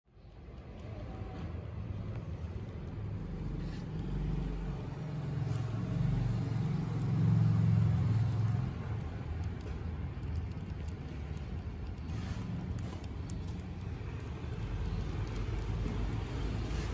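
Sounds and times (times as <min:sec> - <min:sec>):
road traffic rumble: 0:00.1 - 0:16.9
vehicle engine: 0:00.1 - 0:16.9.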